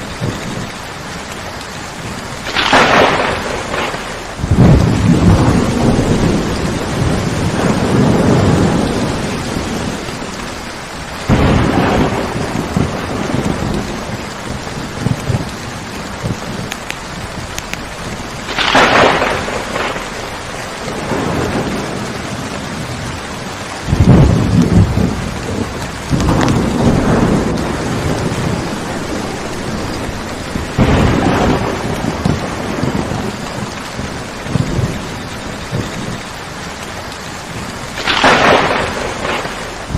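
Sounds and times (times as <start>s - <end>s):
steady rainfall: 0.0s - 39.9s
thunder rolling: 0.0s - 39.9s
sharp thunder clap: 2.1s - 10.6s, 11.2s - 23.2s, 23.8s - 36.3s, 37.5s - 39.9s.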